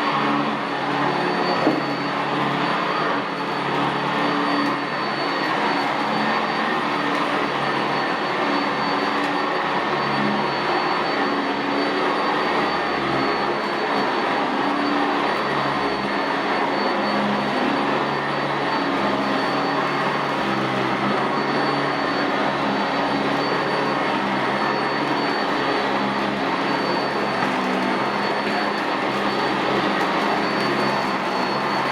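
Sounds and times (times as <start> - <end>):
upright vacuum running on carpet: 0.0 - 31.9.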